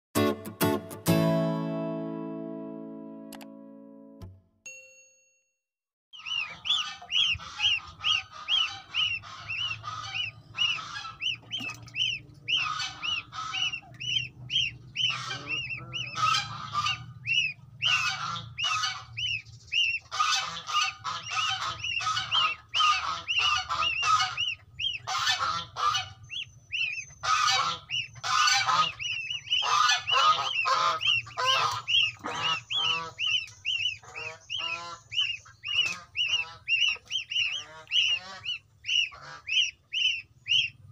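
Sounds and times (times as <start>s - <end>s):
goslings peeping: 6.2s - 40.9s.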